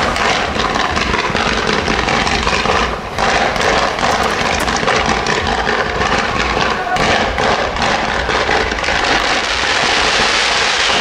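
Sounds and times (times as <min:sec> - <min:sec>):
fireworks crackling and hissing: 0:00.0 - 0:11.0.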